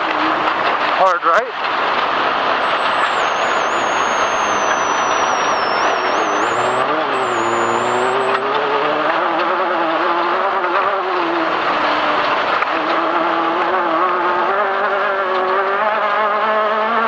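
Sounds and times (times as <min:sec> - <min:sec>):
steady rushing noise: 0:00.0 - 0:14.4
engine running at high revs: 0:00.0 - 0:17.0.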